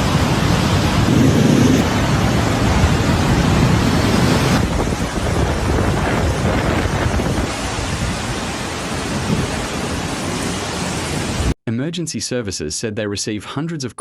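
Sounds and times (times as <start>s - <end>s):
rushing water: 0.0s - 11.6s
wind: 0.0s - 11.6s.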